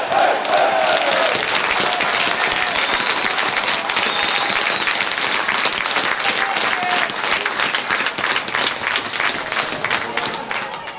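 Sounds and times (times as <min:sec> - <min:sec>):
crowd clapping: 0:00.0 - 0:10.9.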